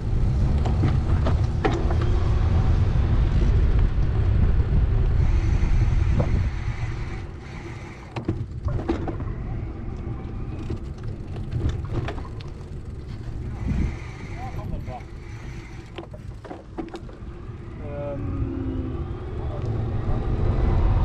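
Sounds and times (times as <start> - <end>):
heavy low traffic rumble: 0.0 - 21.0
street sounds: 0.0 - 21.0.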